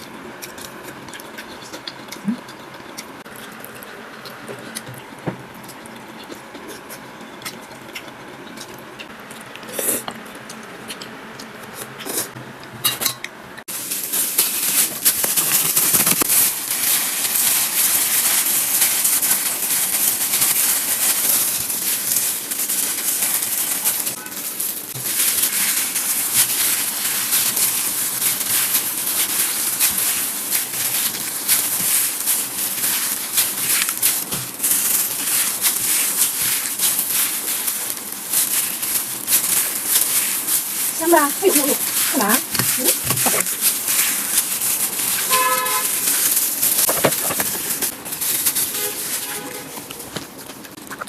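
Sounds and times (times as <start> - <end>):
food crackling sizzle: 0.0 - 51.0.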